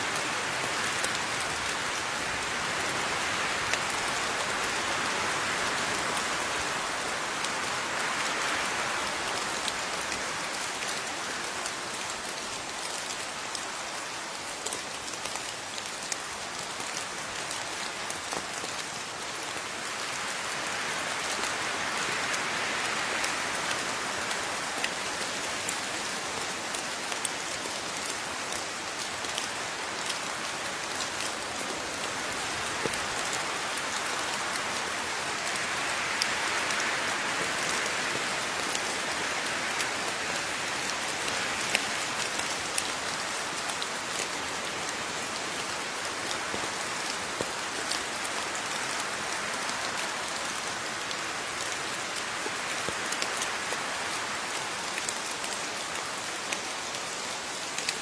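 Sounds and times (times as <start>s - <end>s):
rain falling: 0.0s - 58.0s
raindrops ticking on a surface: 0.1s - 58.0s.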